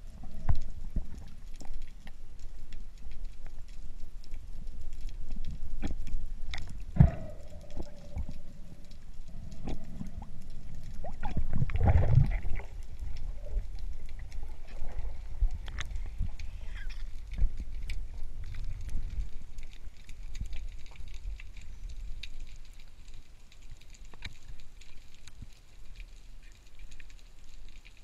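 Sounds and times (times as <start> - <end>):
clicks and knocks underwater: 0.0 - 28.0
underwater rumble of moving water: 0.0 - 28.0.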